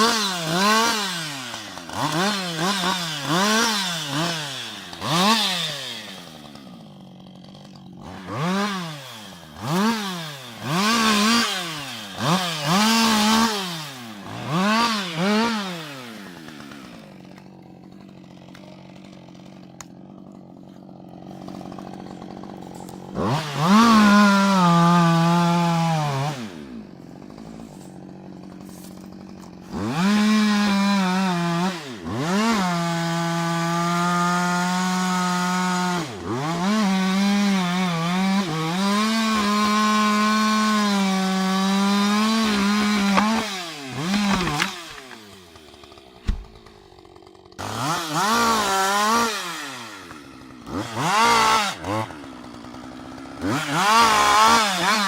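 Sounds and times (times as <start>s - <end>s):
chainsaw cutting under load: 0.0s - 55.0s
chainsaw revving and idling: 0.0s - 55.0s.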